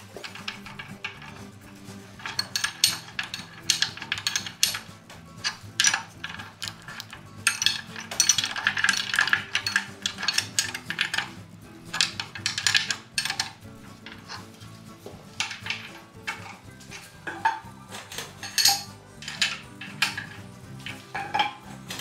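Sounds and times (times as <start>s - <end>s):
quiet background music: 0.0s - 22.0s
wrench and nuts clinking on bolts: 0.0s - 22.0s.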